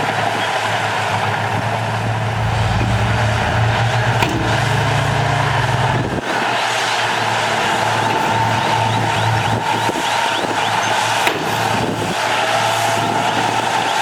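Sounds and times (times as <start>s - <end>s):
heavy diesel engine rumbling: 0.0s - 12.2s.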